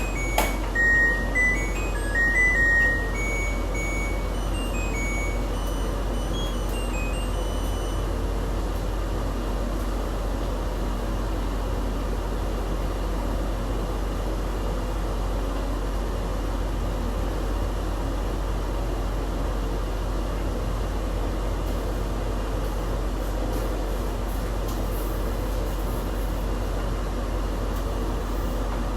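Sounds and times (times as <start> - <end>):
mechanical hum with low drone: 0.0 - 28.9.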